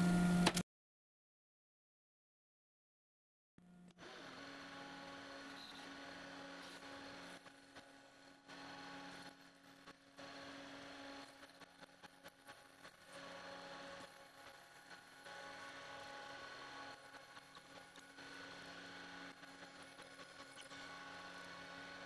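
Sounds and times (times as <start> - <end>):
drill cutting high whine: 4.0 - 22.0.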